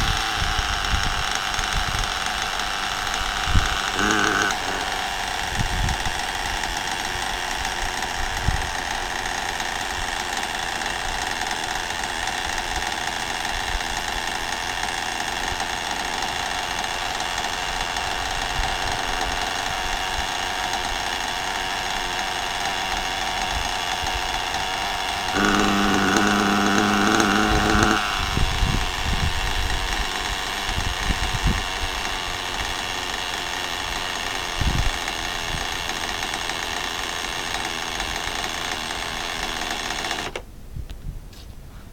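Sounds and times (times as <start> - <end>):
electric motor whining: 0.0 - 40.5.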